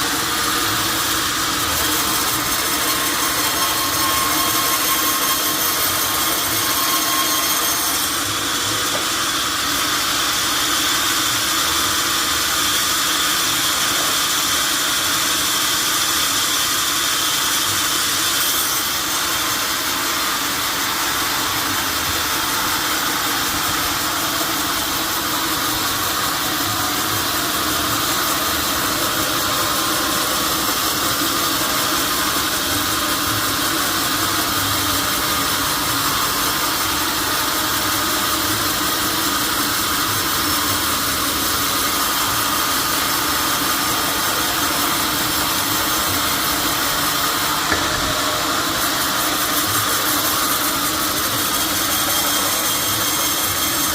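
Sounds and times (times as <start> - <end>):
sawmill saw cutting log: 0.0 - 53.9.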